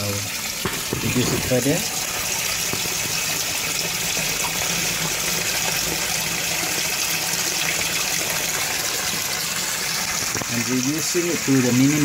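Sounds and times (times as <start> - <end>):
water gushing from pipe: 0.0 - 12.0.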